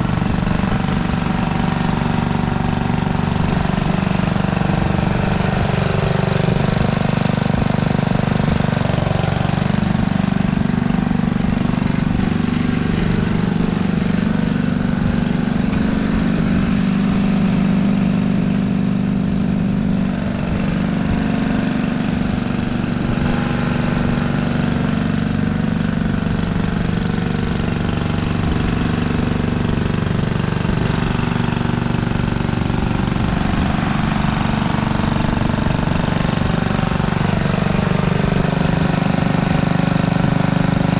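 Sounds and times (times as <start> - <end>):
garden tractor engine running: 0.0 - 40.9.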